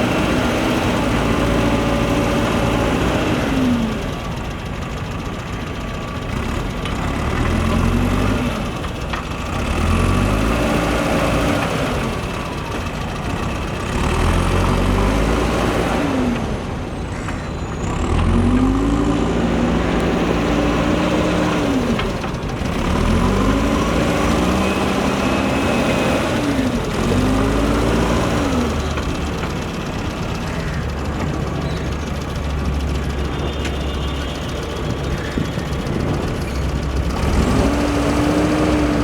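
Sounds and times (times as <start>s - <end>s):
diesel engine revving under load: 0.0s - 39.0s.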